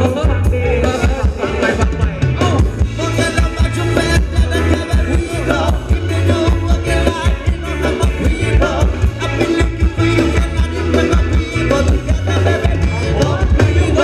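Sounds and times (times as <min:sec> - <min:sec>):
live band playing dance music: 0:00.0 - 0:14.0
person singing: 0:00.0 - 0:14.0.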